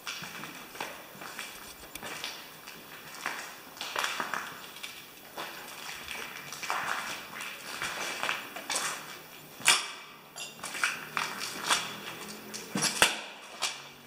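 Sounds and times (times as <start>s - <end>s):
footsteps on debris-strewn floor: 0.0s - 13.8s.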